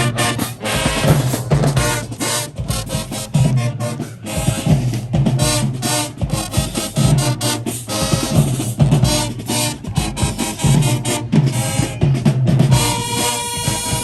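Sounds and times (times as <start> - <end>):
drumline snares and bass drums: 0.0 - 14.0
marching band brass: 0.0 - 14.0.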